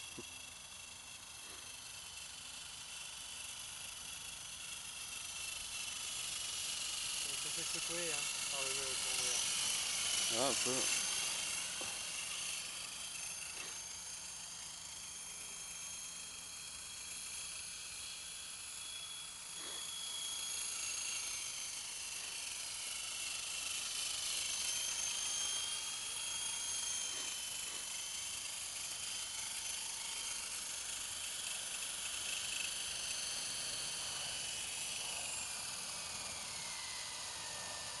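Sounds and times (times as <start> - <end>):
model helicopter rotors whining: 0.0 - 38.0.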